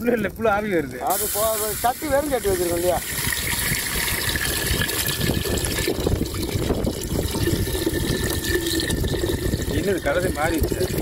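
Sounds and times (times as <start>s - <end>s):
liquid pouring into pot: 1.2s - 11.0s.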